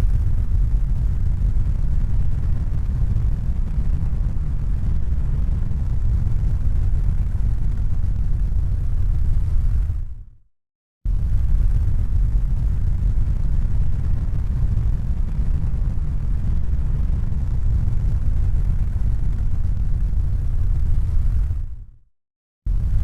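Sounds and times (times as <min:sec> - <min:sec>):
low rumbling noise: 0:00.0 - 0:10.3, 0:11.1 - 0:22.0, 0:22.7 - 0:23.0.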